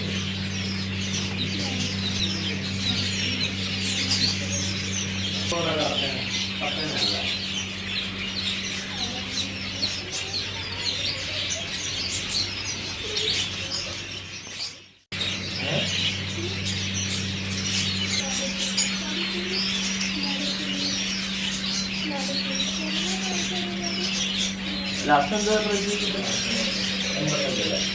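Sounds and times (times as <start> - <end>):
caged birds chirping: 0.0 - 27.9
low electrical hum: 0.0 - 27.9.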